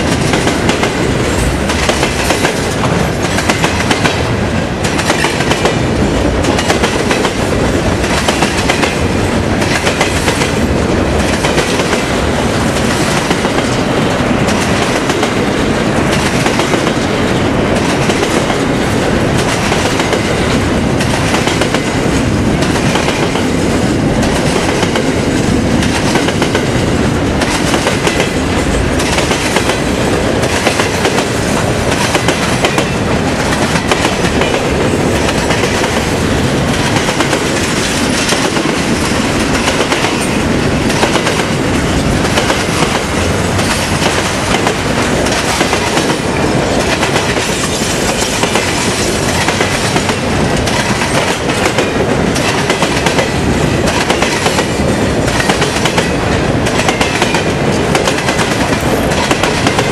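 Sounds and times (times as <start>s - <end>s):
freight train wagons rolling: 0.0s - 59.9s.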